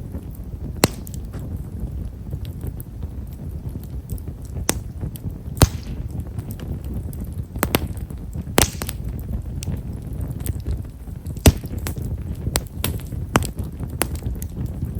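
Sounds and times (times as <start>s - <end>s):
sharp snaps of fire: 0.0s - 14.9s
wood fire crackling: 0.0s - 14.9s.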